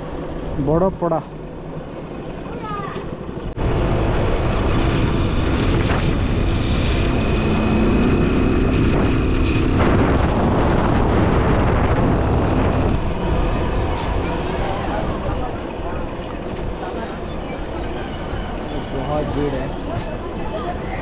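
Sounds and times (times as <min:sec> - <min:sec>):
wind rushing over microphone: 0:03.2 - 0:21.0.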